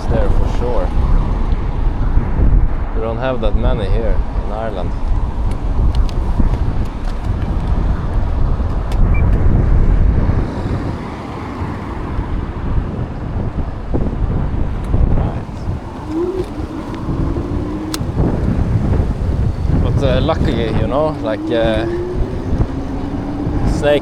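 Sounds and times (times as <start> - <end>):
road traffic: 0.0 - 24.0
wind rumble on microphone: 0.0 - 24.0.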